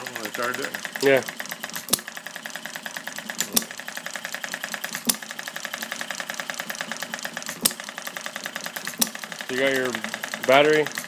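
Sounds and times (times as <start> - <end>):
model engine clattering: 0.0 - 11.0.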